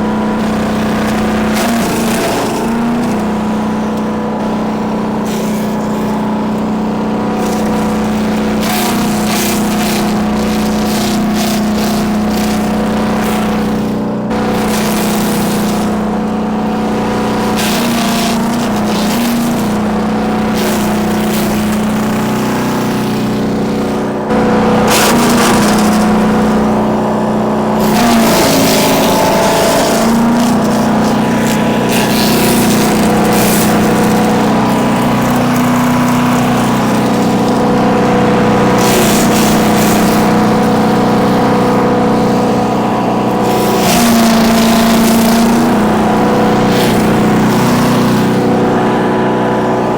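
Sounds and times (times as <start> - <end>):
branches being chipped: 0.0 - 48.9
wood chipper engine running: 0.0 - 49.9.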